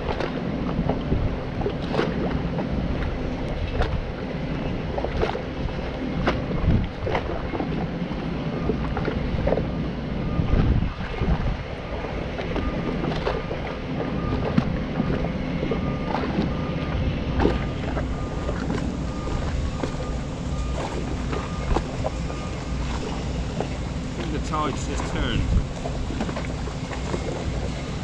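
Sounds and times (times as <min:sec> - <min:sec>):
low engine rumble: 0:00.0 - 0:28.0
wind buffeting microphone: 0:00.0 - 0:28.0.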